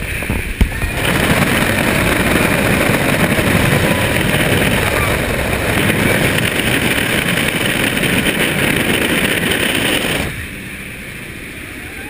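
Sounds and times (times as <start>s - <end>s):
wind rushing: 0.0s - 11.6s
airplane engine drone: 0.0s - 12.0s.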